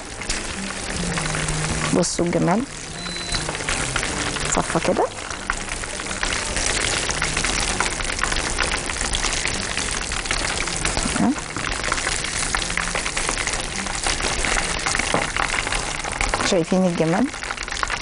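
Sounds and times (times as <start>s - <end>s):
chicken deep-frying in oil: 0.0s - 18.0s.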